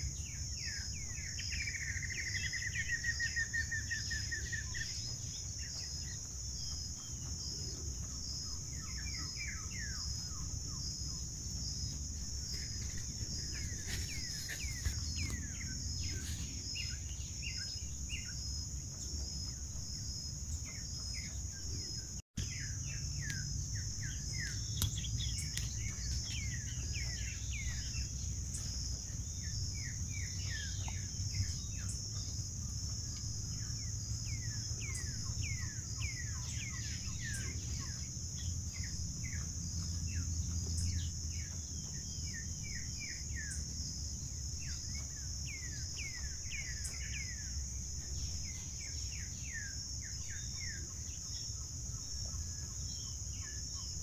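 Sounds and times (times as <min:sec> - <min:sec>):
pulsing high insect trill: 0:00.0 - 0:54.0
small birds chirping: 0:00.0 - 0:54.0.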